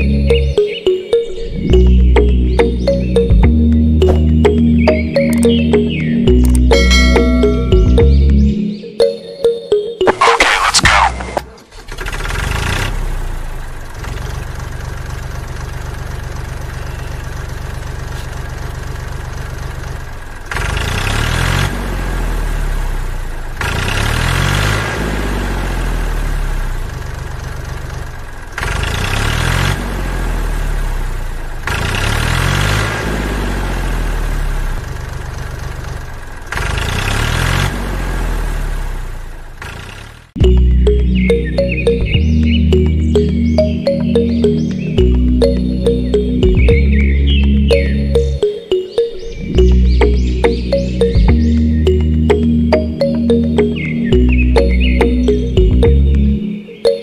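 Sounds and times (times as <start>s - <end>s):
tractor engine idling and revving: 0.0s - 57.0s.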